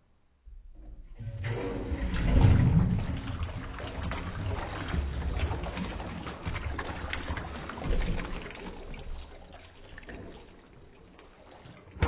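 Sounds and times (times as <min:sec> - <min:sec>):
toilet flushing: 0:01.1 - 0:12.0
water trickling: 0:01.8 - 0:12.0.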